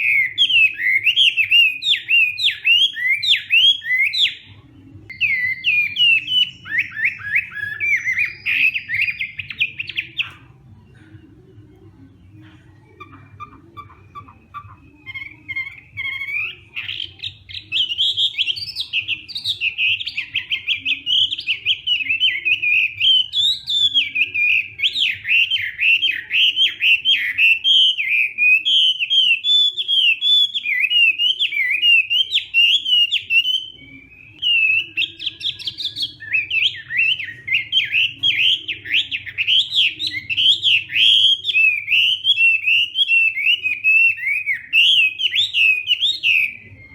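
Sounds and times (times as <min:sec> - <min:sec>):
bird singing whistled phrases: 0:00.0 - 0:04.5, 0:05.1 - 0:10.4, 0:13.0 - 0:46.9.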